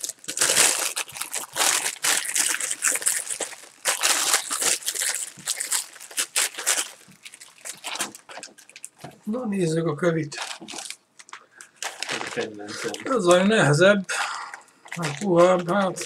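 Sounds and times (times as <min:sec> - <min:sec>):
plastic bag crinkling: 0:00.0 - 0:09.2, 0:10.3 - 0:13.8, 0:14.4 - 0:16.0.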